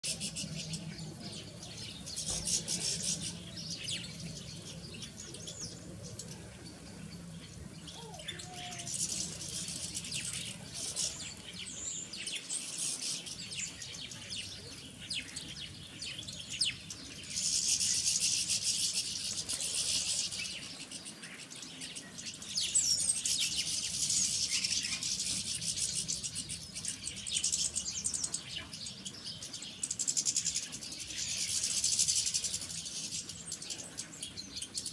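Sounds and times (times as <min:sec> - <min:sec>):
songbirds twittering and chirping: 0:00.0 - 0:34.9.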